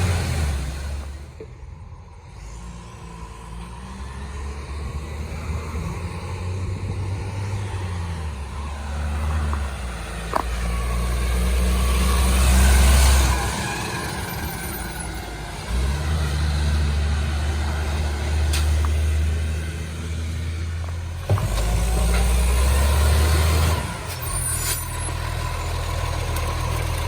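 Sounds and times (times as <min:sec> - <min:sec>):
garbage truck engine running: 0:04.9 - 0:27.0.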